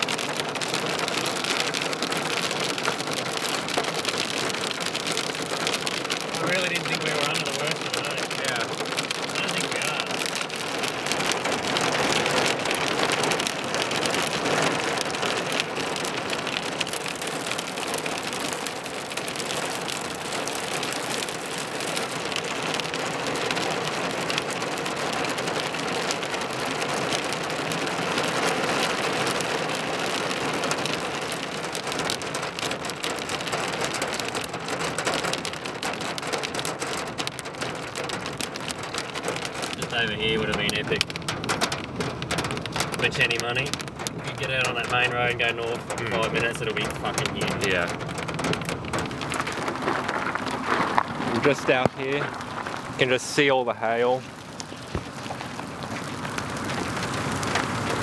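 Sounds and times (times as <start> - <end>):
hail and rain pelting a car: 0.0 - 58.0.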